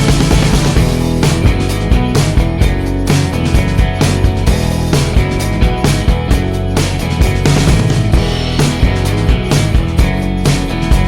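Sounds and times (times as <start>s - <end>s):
upbeat rock music: 0.0s - 11.0s.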